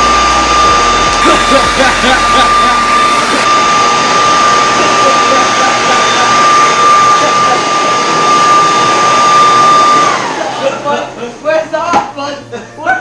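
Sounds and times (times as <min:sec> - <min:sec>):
leaf blower running: 0:00.0 - 0:10.9.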